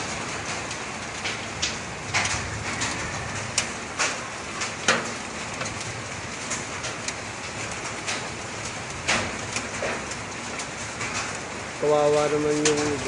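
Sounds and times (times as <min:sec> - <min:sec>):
hiss of grit falling on roof: 0:00.0 - 0:13.0.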